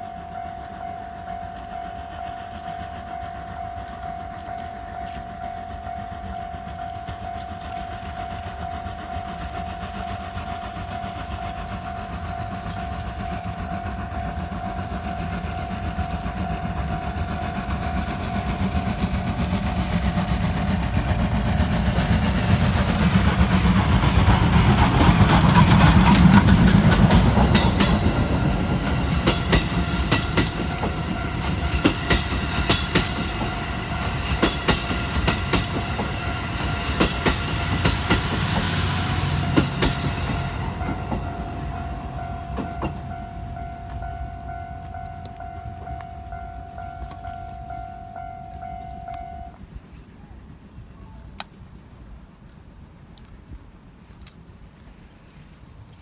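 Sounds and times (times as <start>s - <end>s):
steam locomotive exhaust: 0.0s - 51.4s
train wheels clacking over rail joints: 0.7s - 49.3s.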